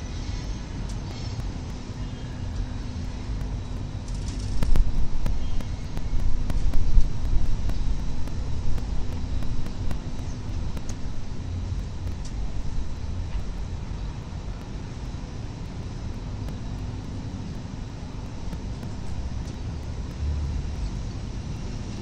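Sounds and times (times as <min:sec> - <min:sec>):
low city rumble: 0:00.0 - 0:22.0.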